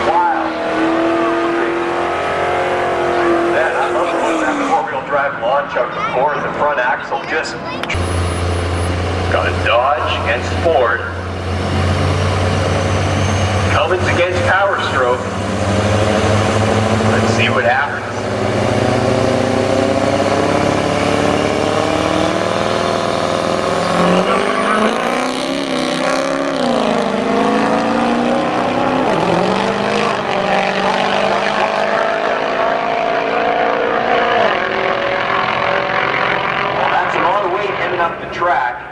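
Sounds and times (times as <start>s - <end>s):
diesel trucks accelerating hard: 0.0s - 38.9s.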